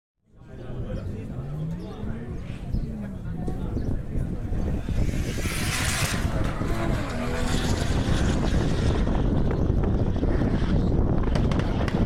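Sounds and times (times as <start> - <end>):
distant car engine rumbling: 0.4 - 12.0
wind buffeting microphone: 0.4 - 12.0.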